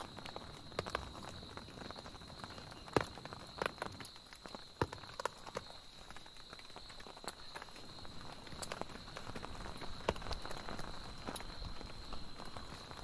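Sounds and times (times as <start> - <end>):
loud raindrops on tent: 0.0 - 13.0
rain pattering on a tent: 0.0 - 13.0.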